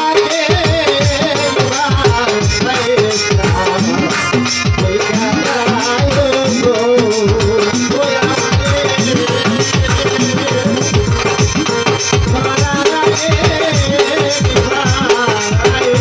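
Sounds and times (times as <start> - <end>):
hand drums: 0.0 - 16.0
man singing into microphone: 0.0 - 16.0.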